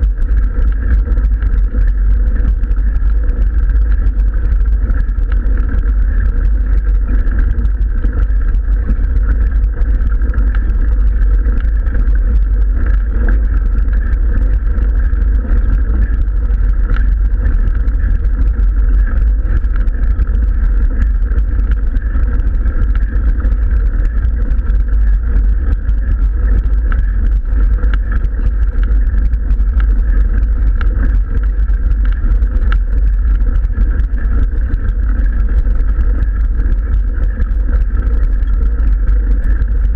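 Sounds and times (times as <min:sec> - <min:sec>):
bike tyres rumbling on gravel: 0:00.0 - 0:39.9.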